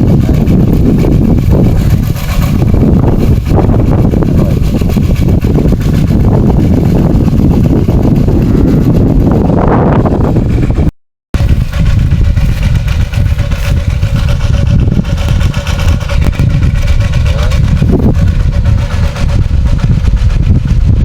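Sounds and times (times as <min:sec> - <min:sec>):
water pump engine running: 0:00.0 - 0:21.0.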